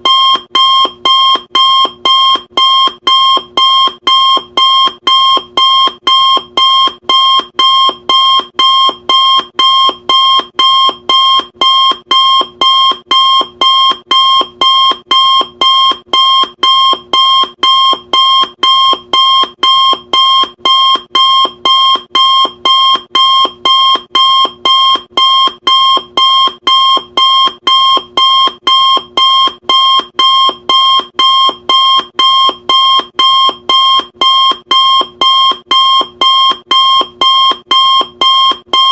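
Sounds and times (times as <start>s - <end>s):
electronic alarm beeps: 0.0s - 38.9s.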